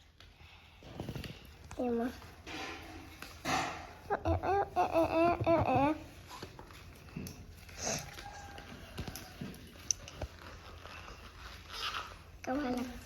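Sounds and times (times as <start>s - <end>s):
faint taps and rustles: 0.1s - 12.0s.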